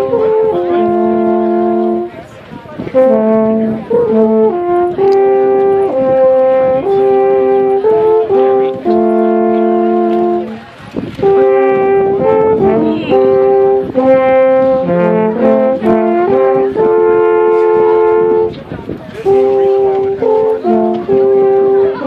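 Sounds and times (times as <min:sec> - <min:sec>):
alphorns playing duet: 0:00.0 - 0:22.0.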